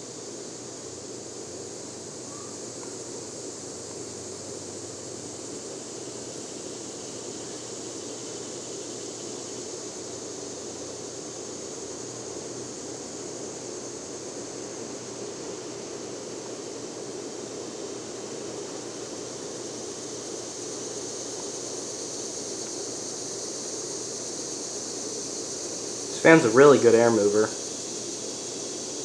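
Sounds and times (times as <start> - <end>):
ceiling fan air rushing: 0.0 - 29.0.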